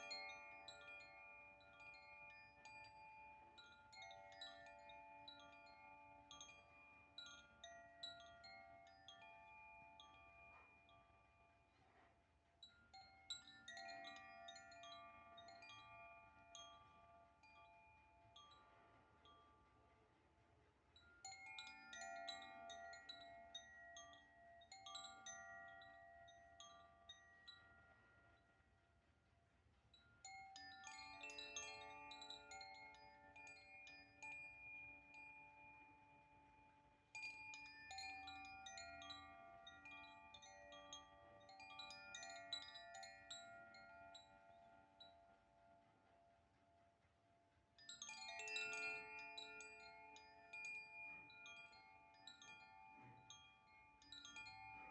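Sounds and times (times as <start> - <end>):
wind chime ringing: 0.0 - 11.7, 12.6 - 19.9, 20.9 - 28.8, 29.9 - 45.5, 47.8 - 54.9.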